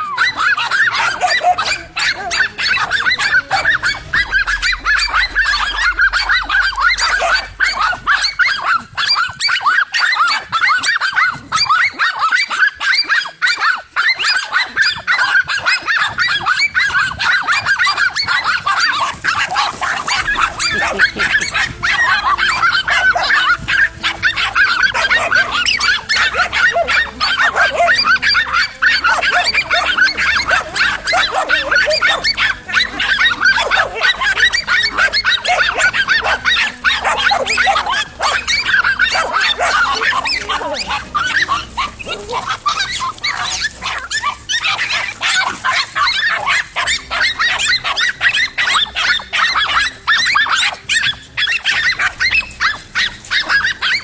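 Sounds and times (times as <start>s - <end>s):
dogs barking and yapping: 0.0s - 54.0s.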